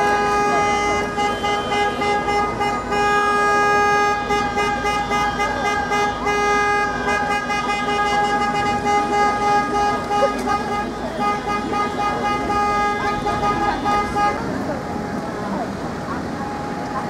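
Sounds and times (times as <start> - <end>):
car horns blaring: 0.0 - 15.2
street noise: 0.0 - 17.0.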